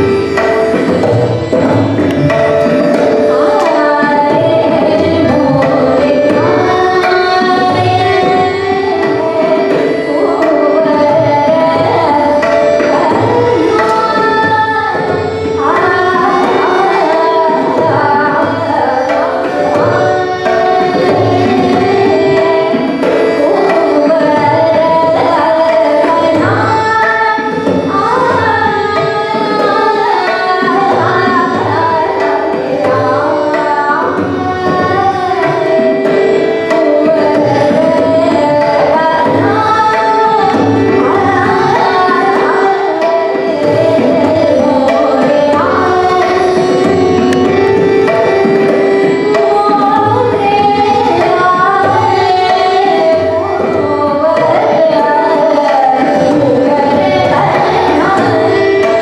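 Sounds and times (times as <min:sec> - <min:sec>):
tabla rhythm: 0:00.0 - 0:59.0
woman singing: 0:00.0 - 0:59.0.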